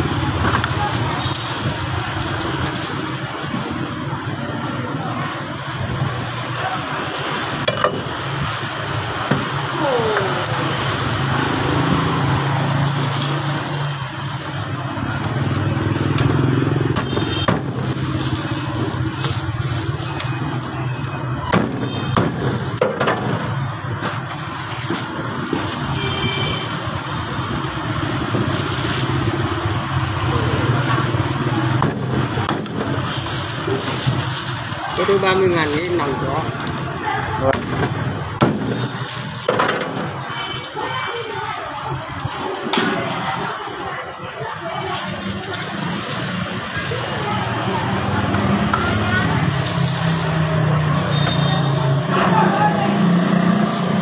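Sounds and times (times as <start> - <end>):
street traffic: 0.0 - 54.0.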